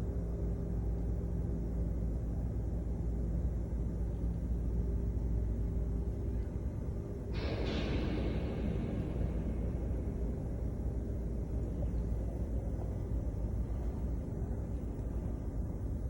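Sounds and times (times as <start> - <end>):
low machinery drone: 0.0 - 16.0.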